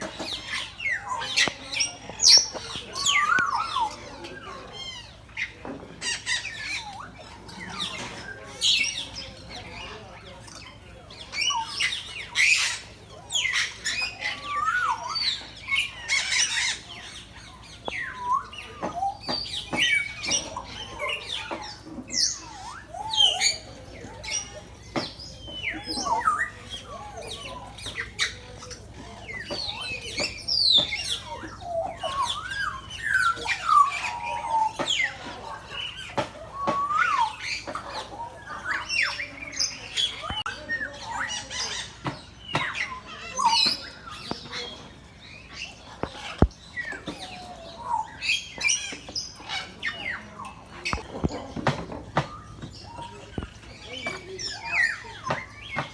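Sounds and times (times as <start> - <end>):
parrots squawking and whistling: 0.0 - 55.9.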